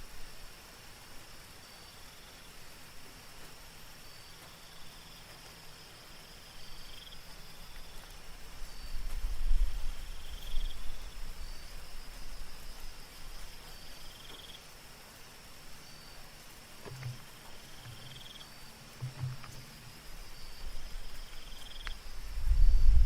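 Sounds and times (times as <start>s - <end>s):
crickets trilling and chirping: 0.0s - 23.0s
night insects droning: 0.0s - 23.0s
rain hiss: 0.0s - 23.0s.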